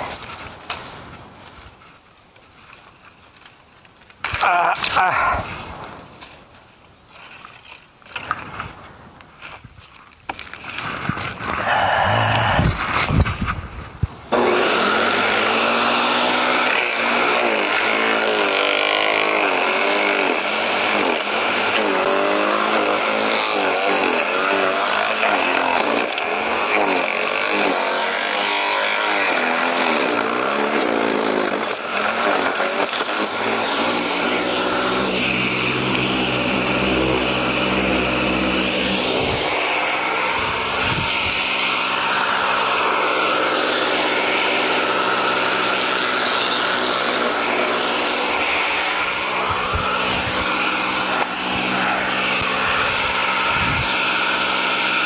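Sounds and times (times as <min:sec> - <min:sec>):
garden shredder chewing branches: 0:00.0 - 0:55.0.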